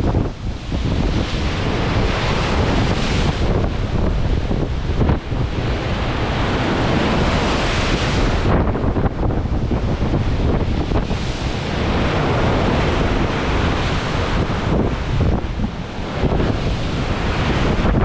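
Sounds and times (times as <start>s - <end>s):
waves breaking along ship: 0.0s - 18.0s
wind buffeting microphone: 0.0s - 18.0s.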